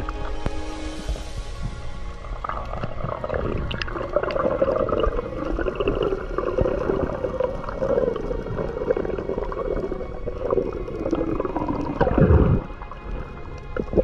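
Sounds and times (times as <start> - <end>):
low underwater rumble: 0.0 - 14.0
wavering underwater drone: 0.0 - 14.0.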